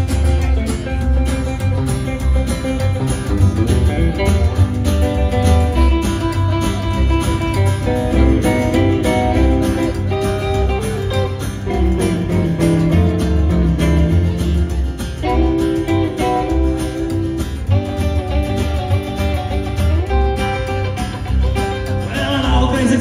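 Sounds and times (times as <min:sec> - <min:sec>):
hollow-body electric guitar: 0:00.0 - 0:23.0
strummed acoustic guitar: 0:00.0 - 0:23.0
upright bass: 0:00.0 - 0:23.0.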